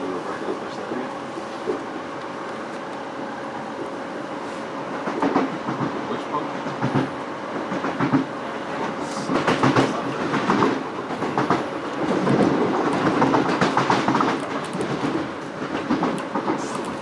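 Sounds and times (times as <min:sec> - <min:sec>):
rail clicks and clatter: 0:00.0 - 0:04.0, 0:04.7 - 0:17.0
train wheels rumbling on track: 0:00.0 - 0:17.0.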